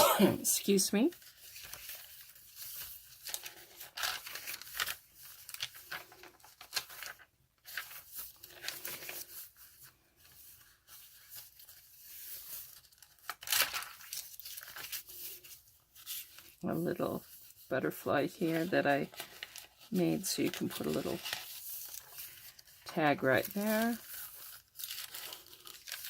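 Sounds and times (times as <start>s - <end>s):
paper pages rustling: 1.1s - 26.0s.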